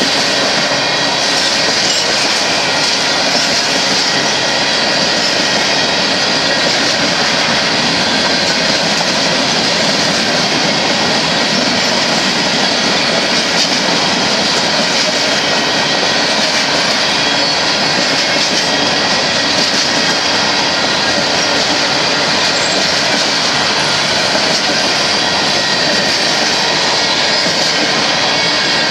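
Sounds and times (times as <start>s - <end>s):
high wheel squeal: 0.0s - 28.9s
steel train wheels on rail: 0.0s - 28.9s.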